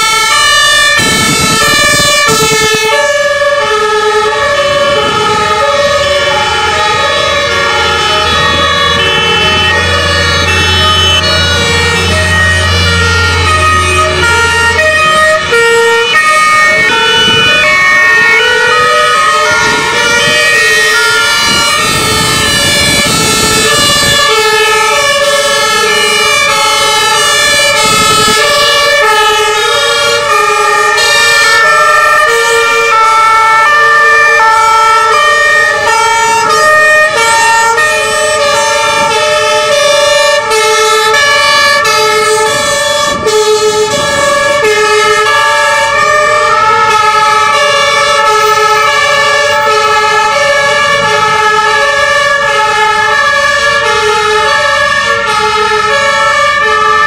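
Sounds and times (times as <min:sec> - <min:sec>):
fire engine sirens: 0:00.0 - 0:57.0
truck engines rumbling: 0:00.0 - 0:57.0.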